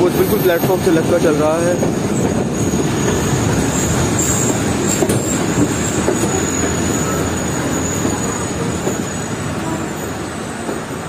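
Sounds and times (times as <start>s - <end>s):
high wheel squeal: 0.0s - 10.7s
train wheels on rails: 0.0s - 11.0s.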